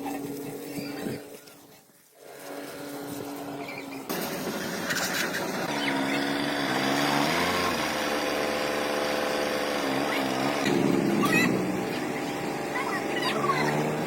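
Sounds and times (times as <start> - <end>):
small engine running: 2.2 - 14.0.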